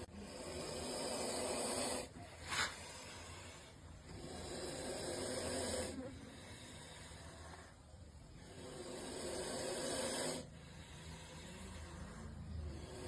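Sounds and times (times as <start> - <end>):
snake hissing: 0.0 - 13.0.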